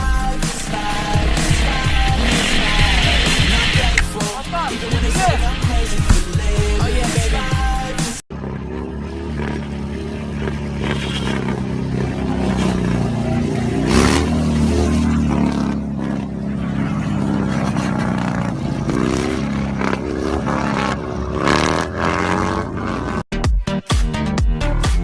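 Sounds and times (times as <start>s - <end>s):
vehicle engine revving: 0.0s - 23.3s.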